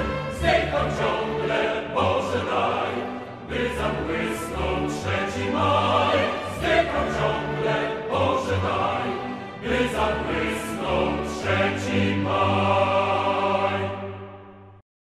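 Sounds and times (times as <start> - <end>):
orchestral music with choir: 0.0 - 14.8.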